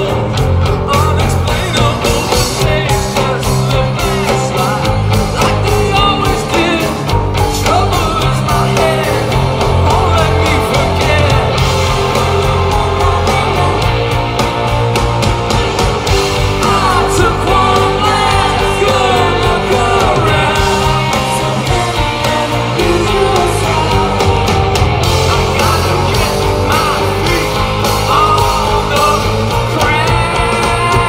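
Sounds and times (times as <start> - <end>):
man singing lead vocal: 0.0 - 15.0, 16.0 - 31.0
live rock band playing: 0.0 - 31.0.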